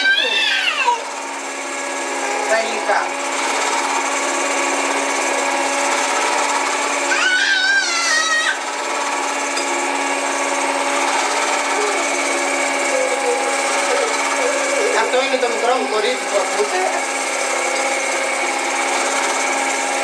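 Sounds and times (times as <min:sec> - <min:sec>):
stand mixer motor running: 0:00.0 - 0:20.0.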